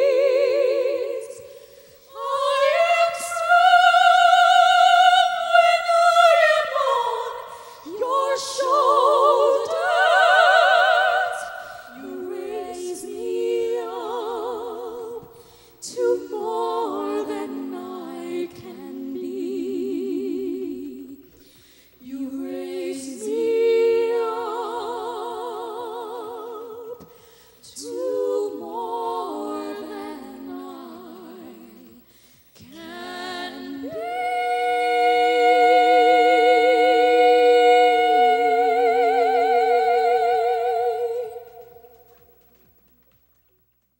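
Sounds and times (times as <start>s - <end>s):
female vocal trio singing: 0.0s - 42.1s.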